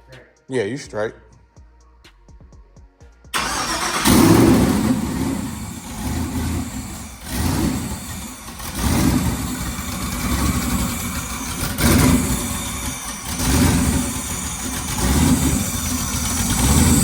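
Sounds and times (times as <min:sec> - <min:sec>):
car engine revving: 0:03.4 - 0:17.0.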